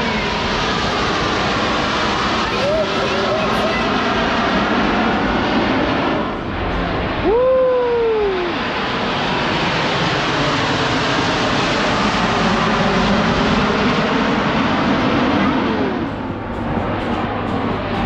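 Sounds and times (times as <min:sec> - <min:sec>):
jet aircraft roar: 0:00.0 - 0:18.0
rising and falling pitched glide: 0:00.0 - 0:18.0.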